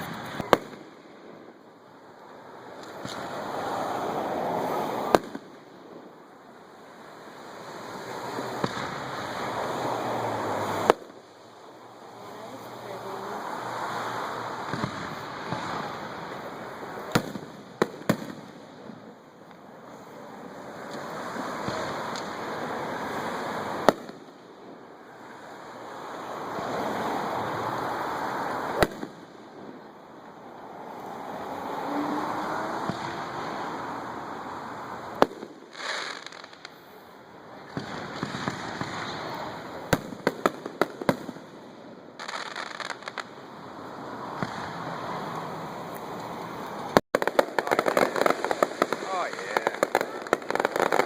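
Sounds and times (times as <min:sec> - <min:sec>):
firework sharp crack: 0:00.0 - 0:29.9, 0:32.7 - 0:51.0.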